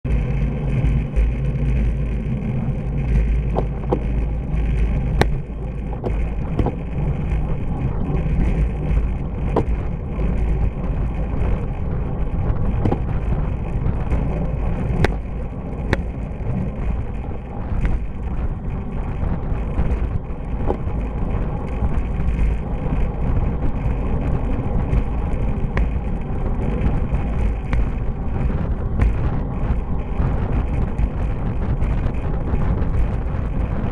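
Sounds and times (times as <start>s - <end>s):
bicycle road noise: 0.0s - 33.9s
wind rumble on microphone: 0.0s - 33.9s.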